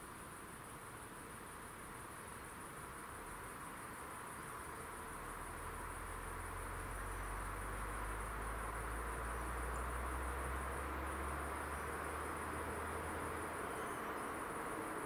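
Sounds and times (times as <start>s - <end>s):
crickets trilling: 0.0s - 15.0s
steady background hiss: 0.0s - 15.0s.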